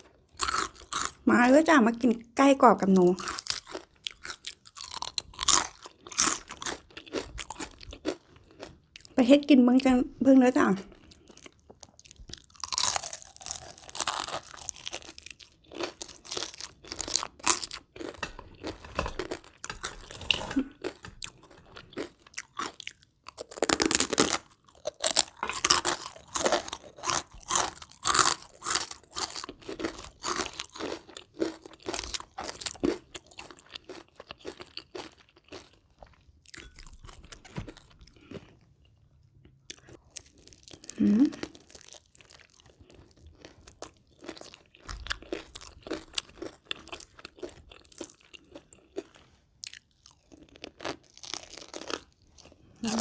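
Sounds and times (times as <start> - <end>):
crunchy food being chewed: 0.0 - 1.3, 2.8 - 9.2, 10.8 - 53.0.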